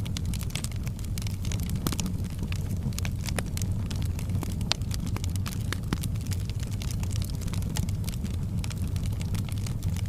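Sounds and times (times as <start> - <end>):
firewood crackling and popping: 0.0 - 10.0.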